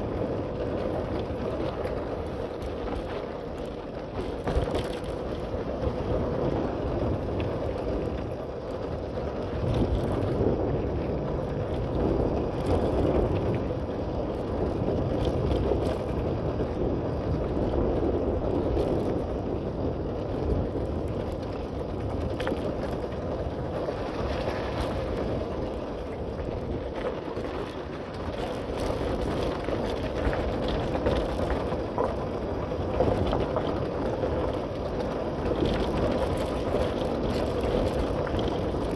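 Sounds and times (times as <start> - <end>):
bicycle clicks and rattles: 0.0 - 38.9
rumble of bicycle tyres and wind: 0.0 - 38.9.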